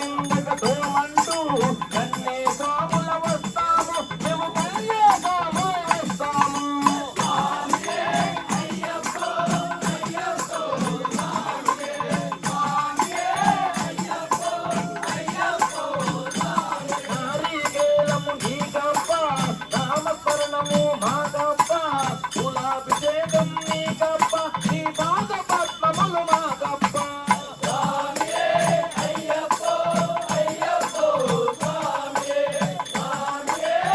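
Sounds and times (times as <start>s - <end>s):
person singing devotional song: 0.0s - 33.9s
shaken rattle percussion: 0.0s - 33.9s.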